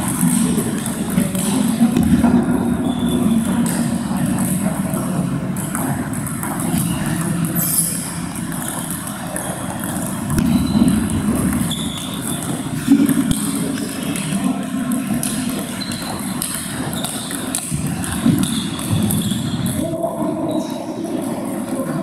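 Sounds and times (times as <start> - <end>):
table tennis balls clicking: 0.0 - 20.2
steady low hum: 0.0 - 22.0.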